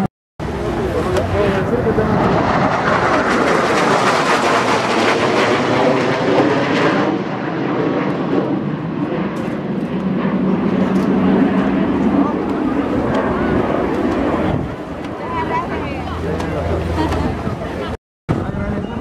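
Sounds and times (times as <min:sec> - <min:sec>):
jets flying overhead: 0:00.0 - 0:19.0.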